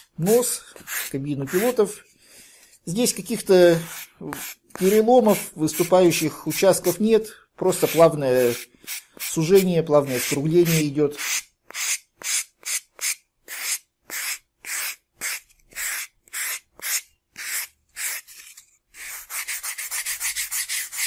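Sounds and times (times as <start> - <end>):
sandpaper rubbing on foam: 0.8 - 1.8, 3.3 - 7.0, 7.7 - 21.0.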